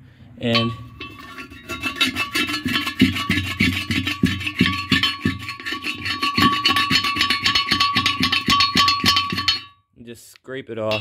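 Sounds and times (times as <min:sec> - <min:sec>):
china scraping porcelain: 0:00.5 - 0:09.6.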